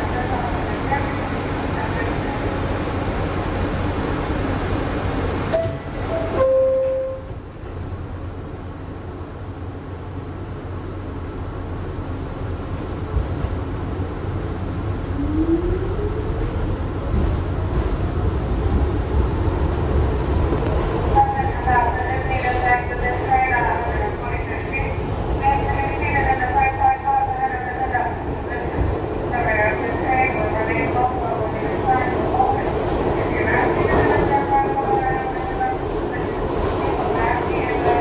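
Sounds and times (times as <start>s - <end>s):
subway train rumbling on rails: 0.0s - 38.0s.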